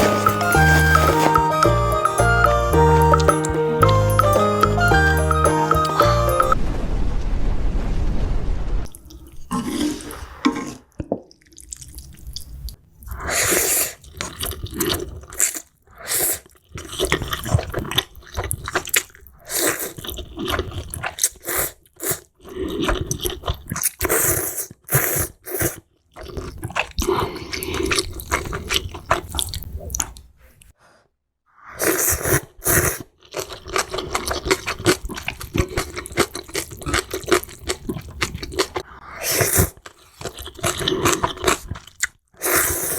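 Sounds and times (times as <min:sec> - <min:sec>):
slurping and chewing noodles: 0:00.0 - 0:01.8, 0:09.0 - 0:30.7, 0:31.7 - 0:42.9.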